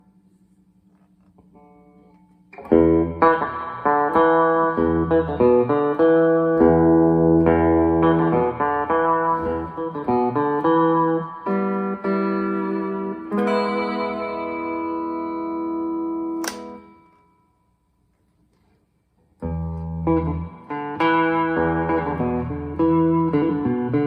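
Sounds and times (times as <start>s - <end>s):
electric guitar chords: 1.4s - 17.5s, 19.4s - 24.0s.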